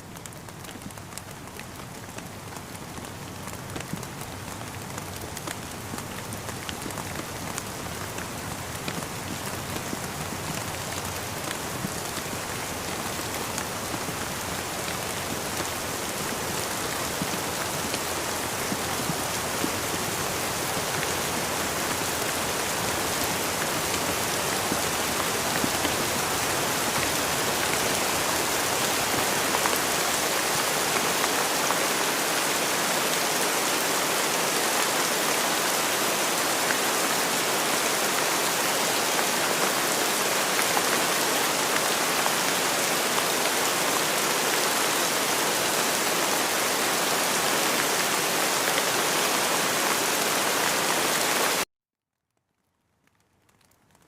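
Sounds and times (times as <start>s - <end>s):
steady rain falling: 0.0s - 51.7s, 52.4s - 54.0s.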